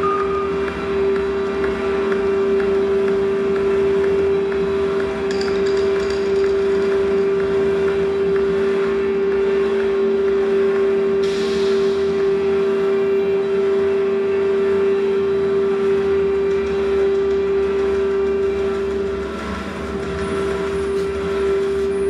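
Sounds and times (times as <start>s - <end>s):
electronic drone: 0.0s - 22.0s.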